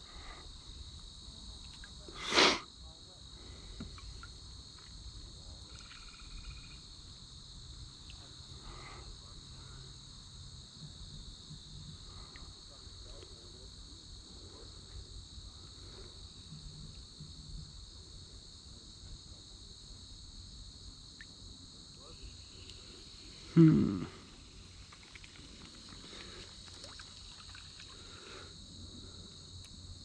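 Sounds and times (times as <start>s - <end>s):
insects singing: 0.0s - 18.6s, 20.6s - 30.0s.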